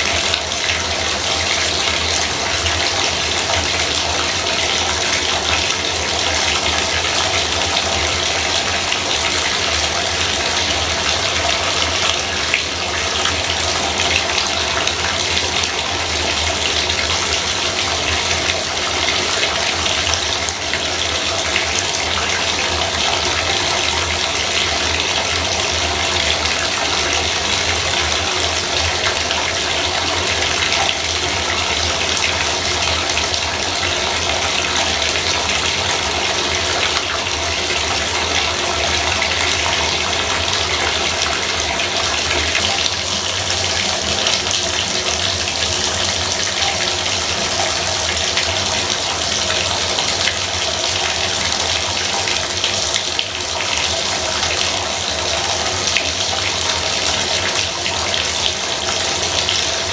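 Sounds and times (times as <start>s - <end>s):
water pouring into bathtub: 0.0s - 59.9s.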